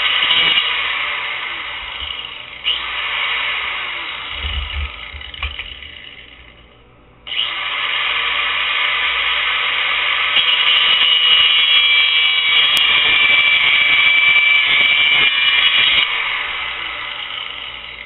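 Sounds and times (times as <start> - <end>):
abrasive wheel cutting metal: 0.0 - 6.6, 7.3 - 18.0.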